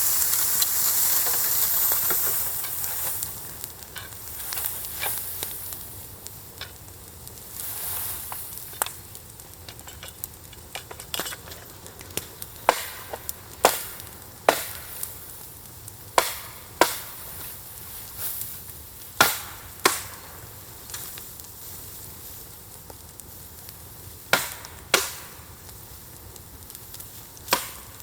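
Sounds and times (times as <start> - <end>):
campfire hissing: 0.0 - 28.0
fire cracks and pops: 0.0 - 28.0.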